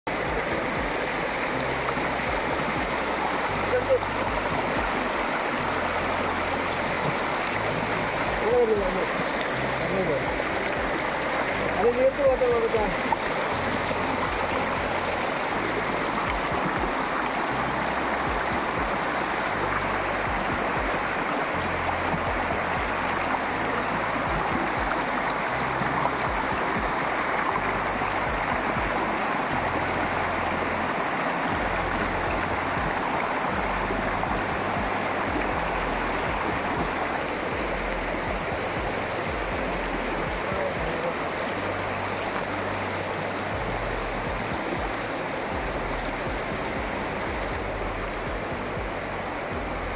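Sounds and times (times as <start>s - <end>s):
water rushing: 0.1s - 49.9s.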